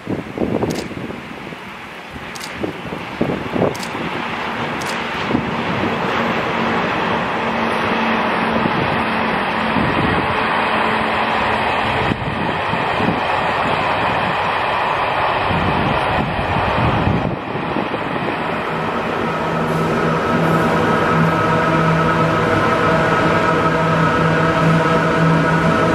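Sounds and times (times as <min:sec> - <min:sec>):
train passing on rails: 0:00.0 - 0:25.9.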